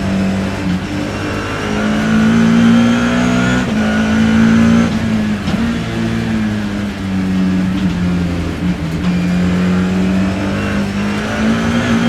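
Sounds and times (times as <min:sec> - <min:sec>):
gear upshift: 0:00.0 - 0:12.0
racing car engine accelerating: 0:00.0 - 0:12.0.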